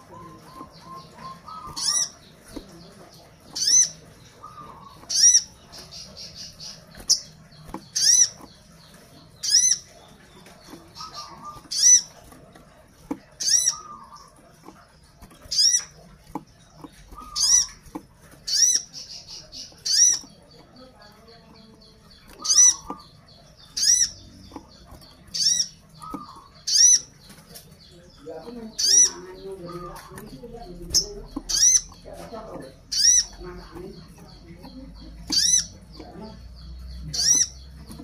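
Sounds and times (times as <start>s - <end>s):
bird buzzy trills and chatter: 0.0s - 38.0s.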